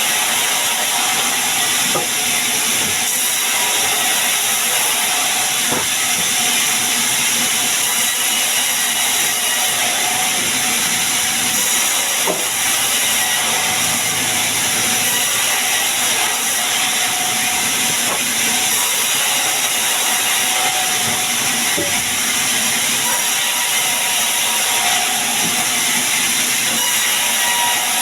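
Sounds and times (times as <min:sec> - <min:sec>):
sawmill saw cutting wood: 0:00.0 - 0:28.0.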